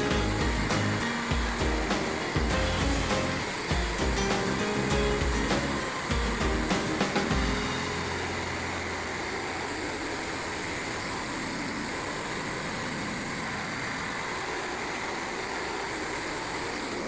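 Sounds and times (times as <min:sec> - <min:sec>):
band sawmill running: 0:00.0 - 0:17.0
low hum: 0:00.0 - 0:17.0.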